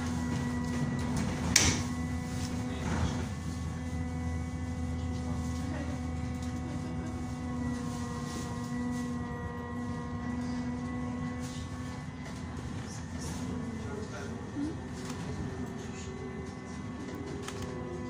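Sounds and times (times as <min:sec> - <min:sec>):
drive equipment whine: 0:00.0 - 0:18.0
trolleybus electric hum: 0:00.0 - 0:18.0.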